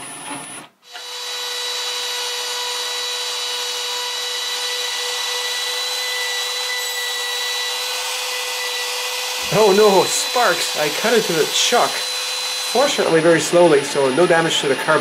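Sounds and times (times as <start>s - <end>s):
trim router high whine: 0.0s - 15.0s.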